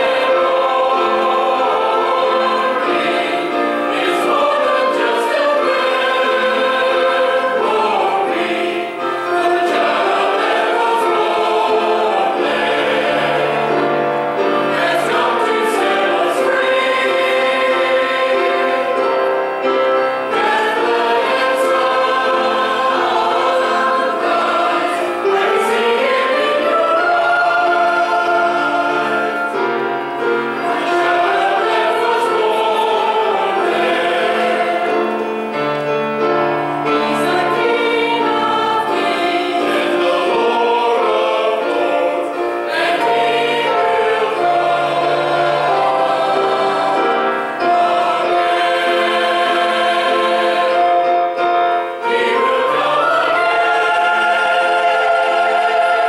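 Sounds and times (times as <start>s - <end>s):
instrumental accompaniment: 0.0s - 56.0s
mixed choir singing in harmony: 0.0s - 56.0s.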